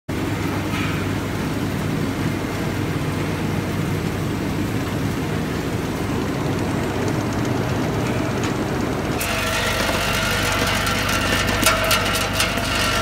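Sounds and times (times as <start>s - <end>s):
conveyor machinery droning: 0.1s - 13.0s.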